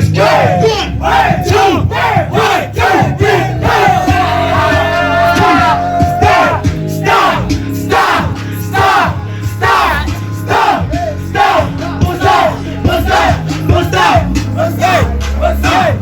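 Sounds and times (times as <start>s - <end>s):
hip-hop beat with heavy bass: 0.0s - 16.0s
voices yelling and chanting: 0.0s - 16.0s.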